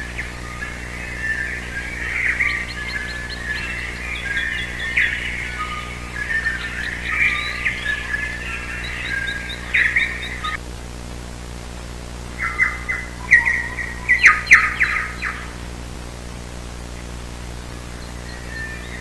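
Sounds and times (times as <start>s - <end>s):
songbird chirps and trills: 0.0s - 10.6s, 12.4s - 16.0s, 16.8s - 19.0s
faint steady hum: 0.0s - 19.0s.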